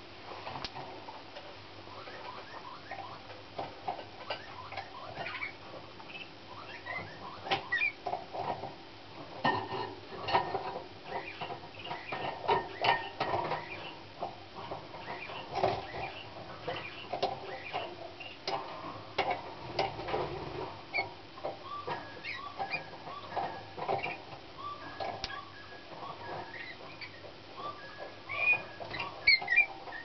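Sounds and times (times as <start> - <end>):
canary singing: 1.8 - 8.7, 9.5 - 30.0.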